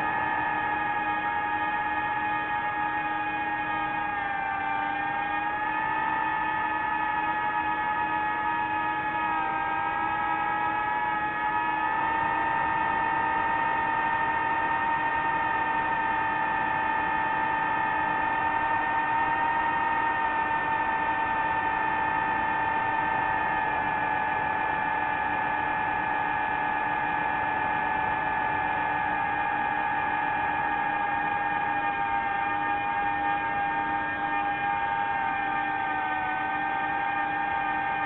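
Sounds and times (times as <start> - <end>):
drone propellers whining: 0.0 - 38.0.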